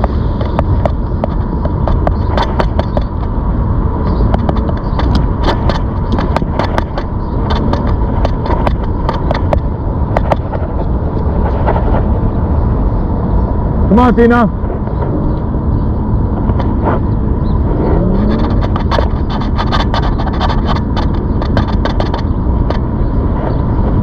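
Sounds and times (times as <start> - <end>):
electric bike tyre noise: 0.0 - 24.0
wind rumbling on microphone: 0.0 - 24.0.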